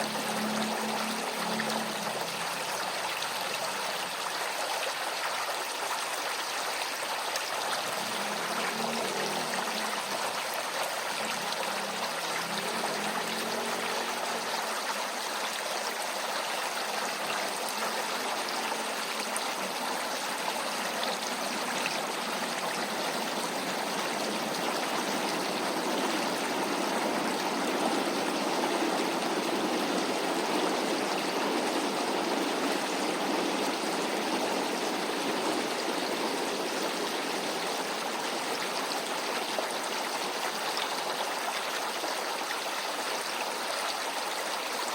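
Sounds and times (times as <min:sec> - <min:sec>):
creek water babbling: 0:00.0 - 0:44.9.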